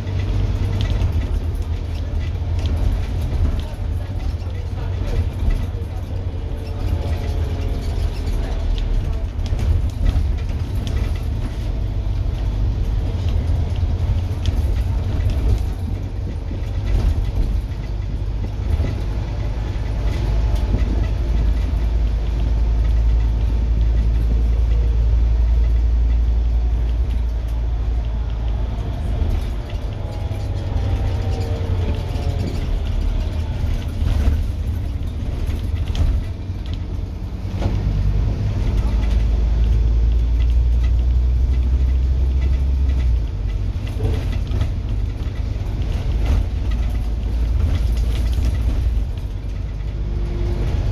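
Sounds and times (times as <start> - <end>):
bus diesel engine rumbling: 0.0 - 50.9.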